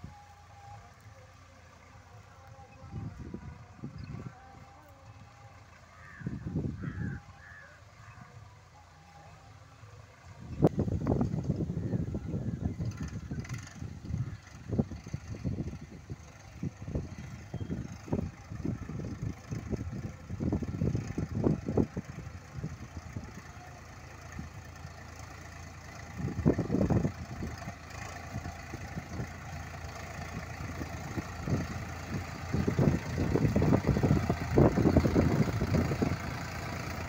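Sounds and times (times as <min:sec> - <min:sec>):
tractor engine running under load: 0:00.0 - 0:37.0.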